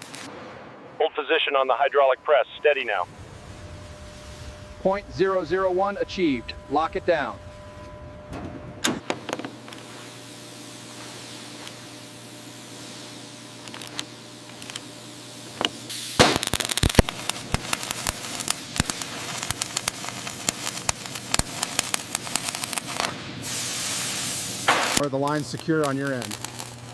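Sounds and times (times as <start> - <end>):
welding arc hissing and crackling: 0.0 - 0.3, 2.7 - 26.9.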